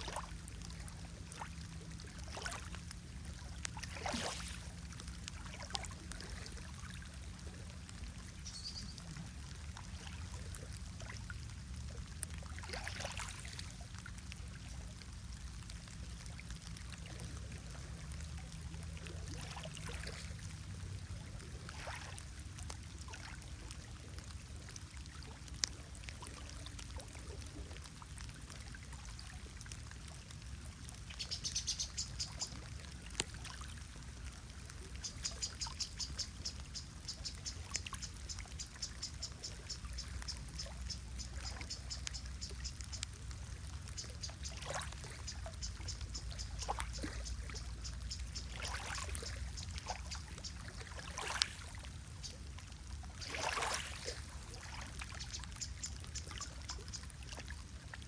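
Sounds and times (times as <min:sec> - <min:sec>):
rain and water noise: 0:00.0 - 0:58.0.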